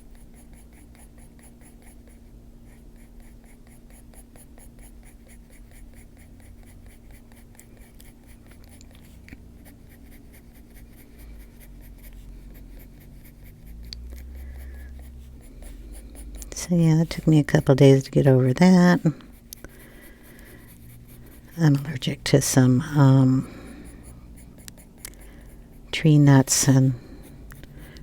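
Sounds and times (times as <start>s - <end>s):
coloured pencil shading on paper: 0.0s - 28.0s.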